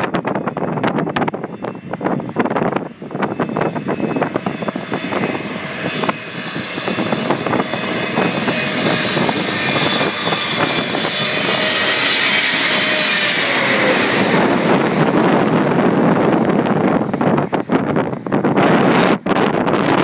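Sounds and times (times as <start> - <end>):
high jet engine whine: 0.0 - 20.0
jet airliner passing overhead: 0.0 - 20.0.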